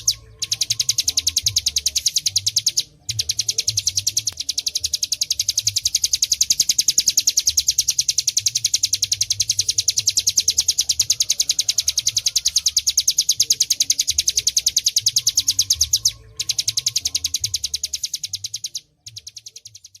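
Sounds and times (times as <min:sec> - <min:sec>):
bird singing fast trill: 0:00.0 - 0:20.0.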